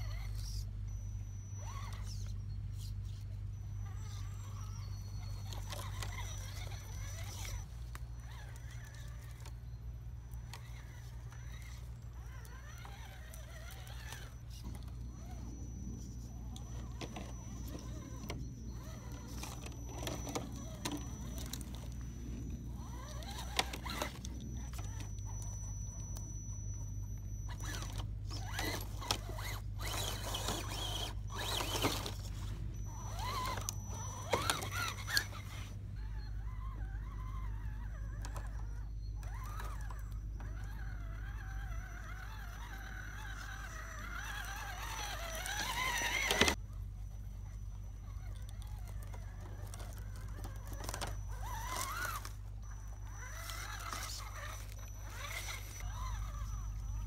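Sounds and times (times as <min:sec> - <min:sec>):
electric motor whining: 0:00.0 - 0:57.0.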